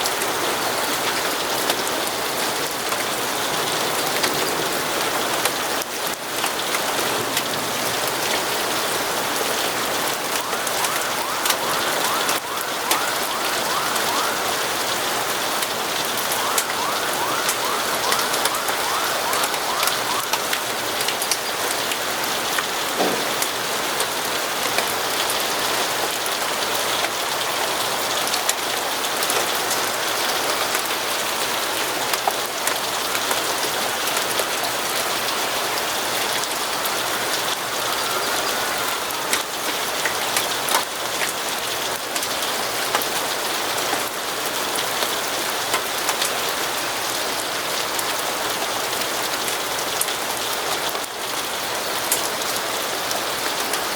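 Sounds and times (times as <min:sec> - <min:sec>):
heavy rain on windows: 0:00.0 - 0:53.9.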